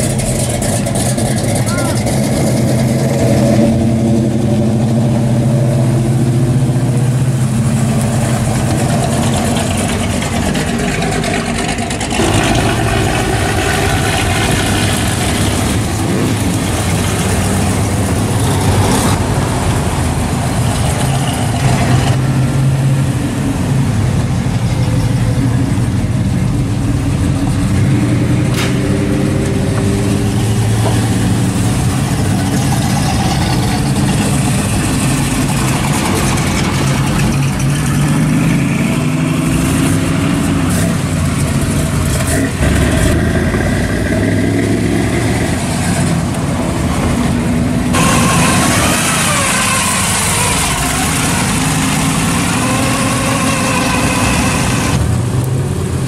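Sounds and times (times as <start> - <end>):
car engines revving past: 0.0 - 56.0.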